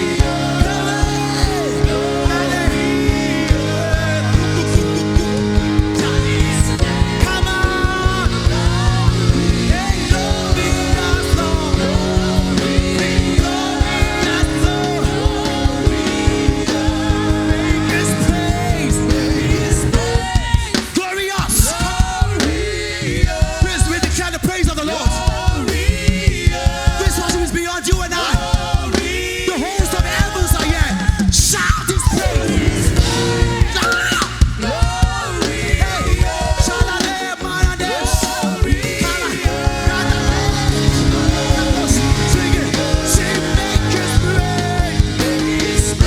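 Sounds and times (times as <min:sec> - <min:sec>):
live worship band music: 0:00.0 - 0:46.0
steady drum beat: 0:00.0 - 0:46.0
voices singing: 0:00.0 - 0:46.0.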